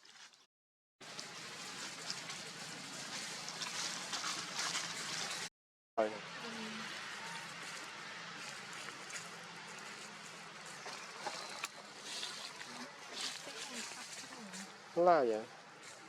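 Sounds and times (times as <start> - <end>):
water splashing and sloshing: 0.0 - 5.5, 6.2 - 16.0.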